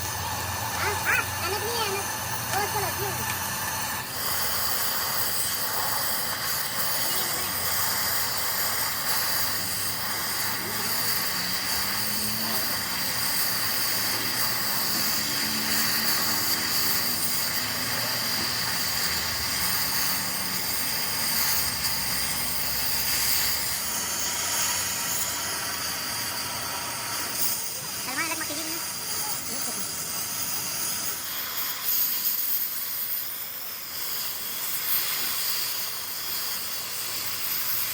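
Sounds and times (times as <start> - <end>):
constant high whine: 0.0 - 37.9
steady hissing noise: 0.0 - 37.9.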